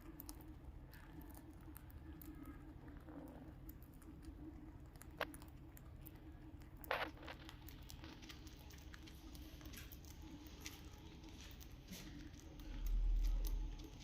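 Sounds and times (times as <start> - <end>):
parrots cracking food: 0.0 - 14.0.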